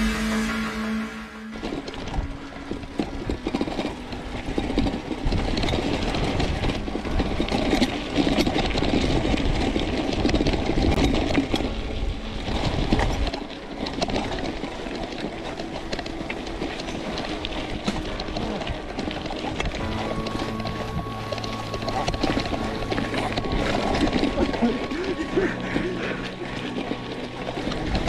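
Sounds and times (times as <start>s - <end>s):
bike tyres rumbling on dirt: 1.7s - 28.0s.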